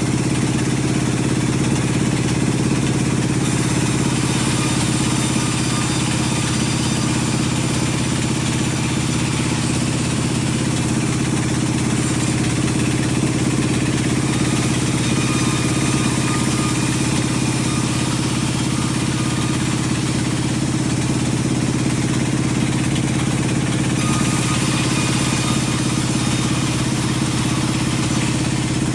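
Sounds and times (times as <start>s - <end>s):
sawmill machinery humming: 0.0s - 28.9s.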